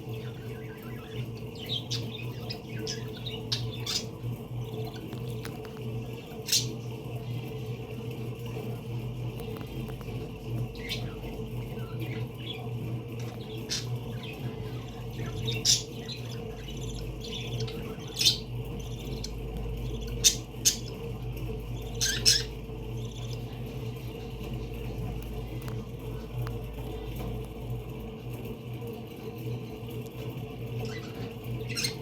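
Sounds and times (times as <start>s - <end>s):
parakeets squawking and chirping: 0.0s - 27.7s, 29.2s - 32.0s
steady low hum: 0.0s - 32.0s.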